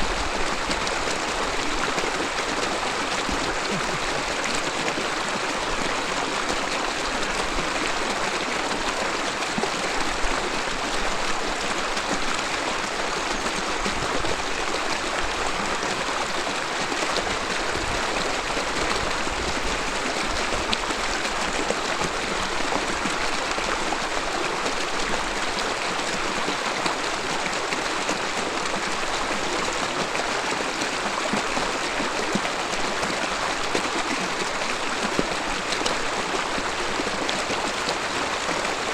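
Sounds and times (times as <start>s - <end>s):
river babbling over rocks: 0.0s - 38.9s.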